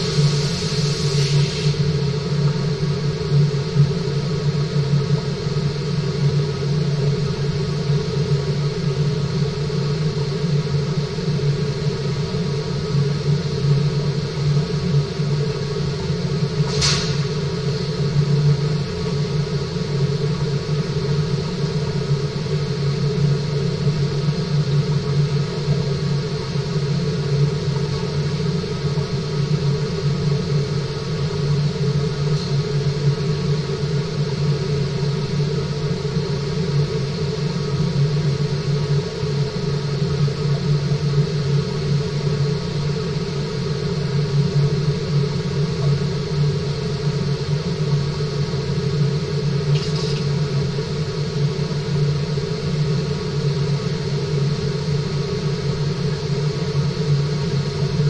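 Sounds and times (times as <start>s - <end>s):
machine hum and rumble: 0.0s - 58.0s.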